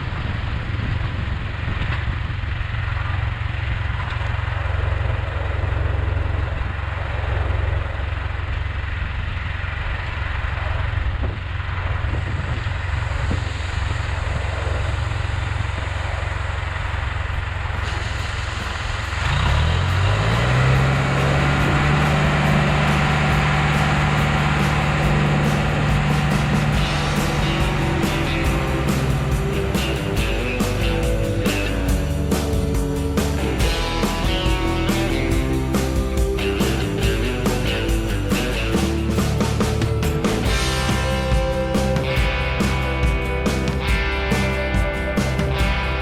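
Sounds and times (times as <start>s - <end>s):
heavy vehicle engine rumbling: 0.0s - 46.0s.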